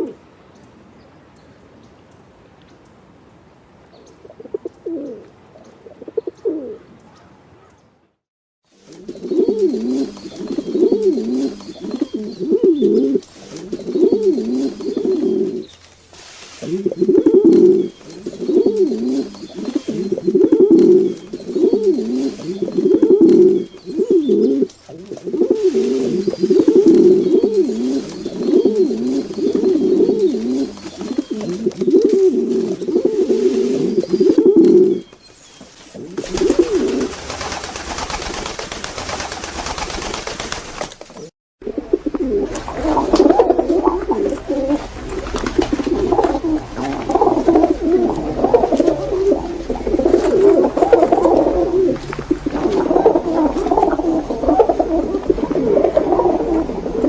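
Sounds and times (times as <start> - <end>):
pigeons cooing: 0.0 - 0.2, 4.2 - 7.7, 8.8 - 40.5, 41.2 - 57.0.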